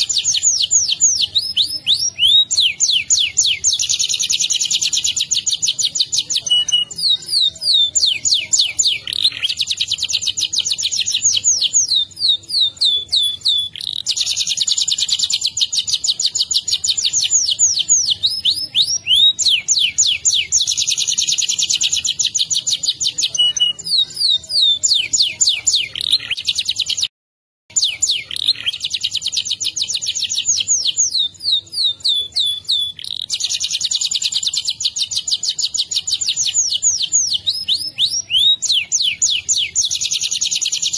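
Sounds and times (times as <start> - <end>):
canary singing trills: 0.0 - 27.1, 27.7 - 40.9.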